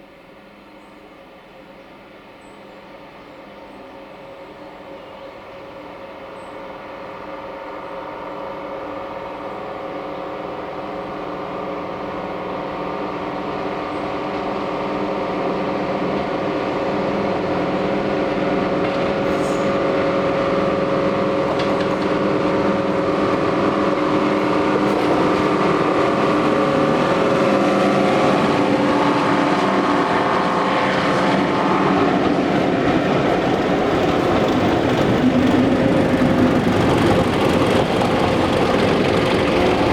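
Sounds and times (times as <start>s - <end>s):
diesel locomotive engine working hard: 0.0s - 39.9s.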